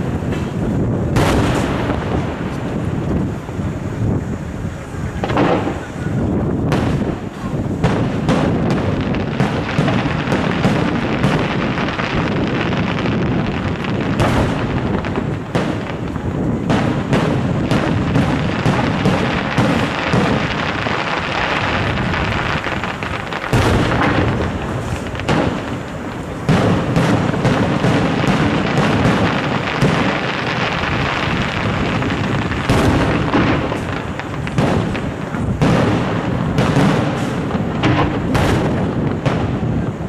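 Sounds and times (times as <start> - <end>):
firework shells bursting: 0.0 - 40.0.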